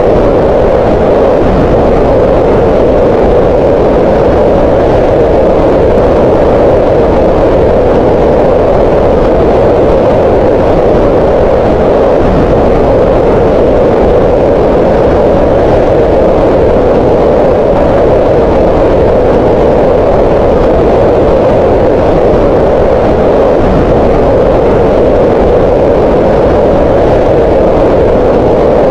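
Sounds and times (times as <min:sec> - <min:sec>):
green noise: 0:00.0 - 0:28.9.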